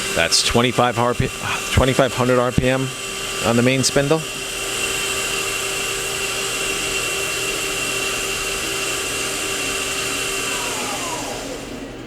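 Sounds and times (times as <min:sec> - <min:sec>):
machine spindle whirring: 0:00.0 - 0:12.0.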